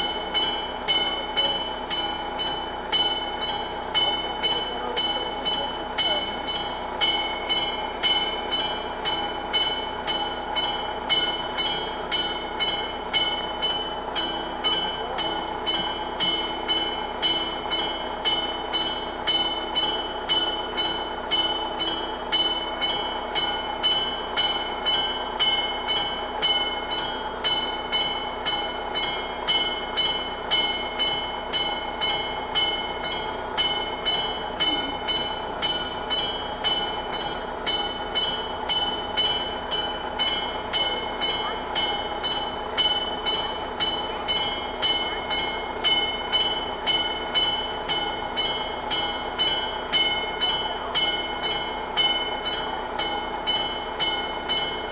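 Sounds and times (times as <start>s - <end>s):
level-crossing bell ringing: 0.0s - 54.9s.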